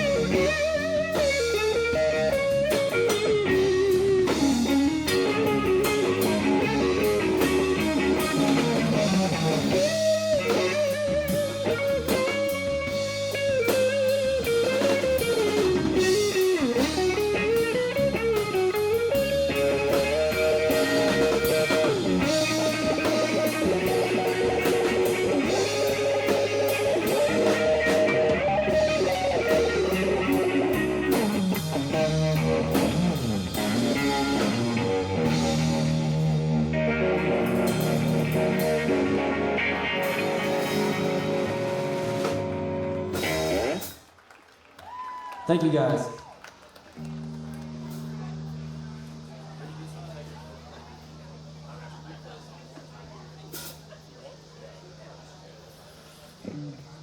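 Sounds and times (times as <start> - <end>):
electric guitar bent notes: 0.0 - 44.0, 47.0 - 54.5
blues band playing: 0.0 - 57.0.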